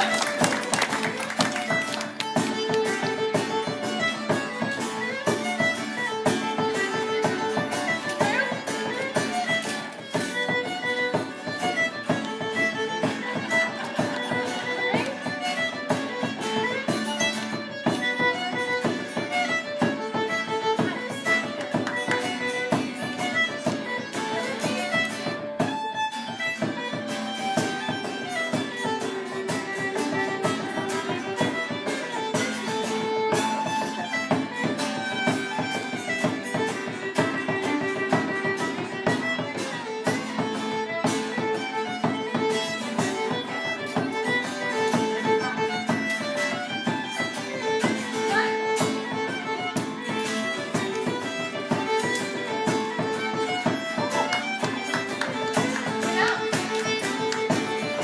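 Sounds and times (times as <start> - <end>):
fiddle playing dance tune: 0.0 - 58.0
frame drum beat: 0.0 - 58.0
guitar: 0.0 - 58.0.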